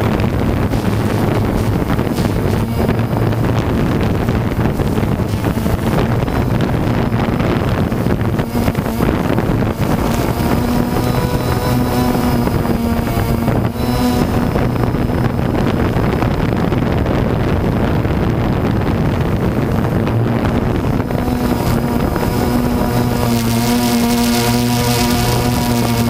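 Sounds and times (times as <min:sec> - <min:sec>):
drone propellers buzzing: 0:00.0 - 0:26.0
wind noise on microphone: 0:00.0 - 0:26.0.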